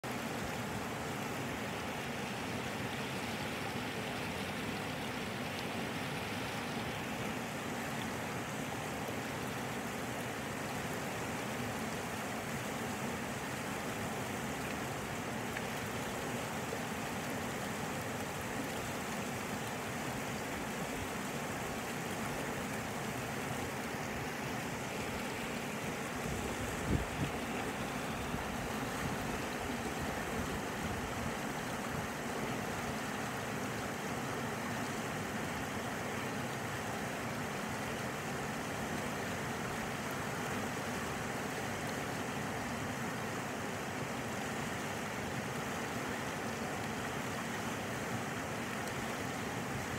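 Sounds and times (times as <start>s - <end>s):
river water rushing over rocks: 0.0s - 49.9s.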